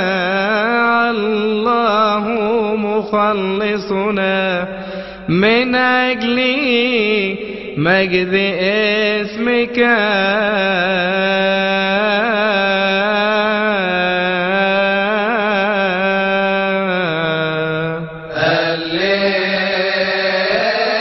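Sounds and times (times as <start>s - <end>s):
man chanting wordless melody: 0.0s - 21.0s.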